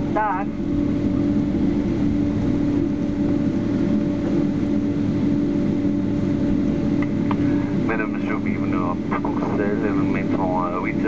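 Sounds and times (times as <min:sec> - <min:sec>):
jet engines humming at idle: 0:00.0 - 0:11.0
low cabin rumble: 0:00.0 - 0:11.0.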